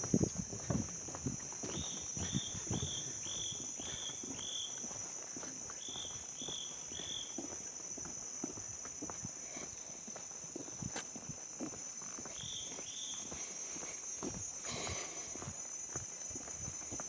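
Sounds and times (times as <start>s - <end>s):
footsteps: 0.0s - 17.0s.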